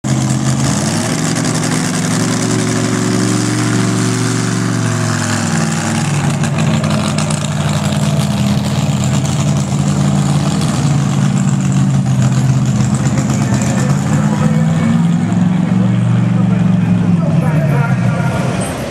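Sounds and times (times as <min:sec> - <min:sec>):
truck engine working hard: 0:00.0 - 0:18.9.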